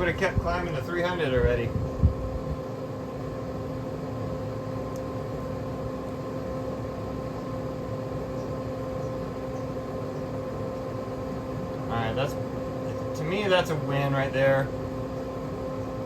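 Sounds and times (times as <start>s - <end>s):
grill fan humming: 0.0s - 16.0s.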